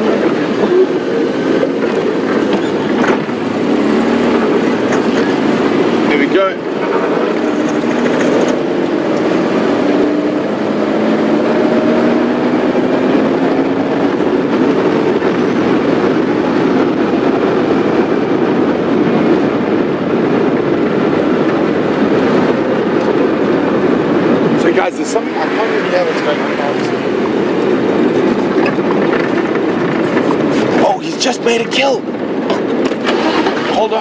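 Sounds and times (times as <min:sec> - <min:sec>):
road and wind rumble: 0:00.0 - 0:34.0
vehicle engine running: 0:00.0 - 0:34.0.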